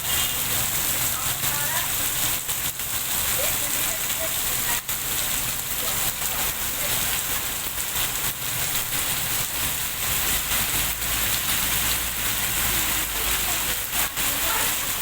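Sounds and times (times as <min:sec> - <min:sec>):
heavy rain on hard surface: 0:00.0 - 0:15.0.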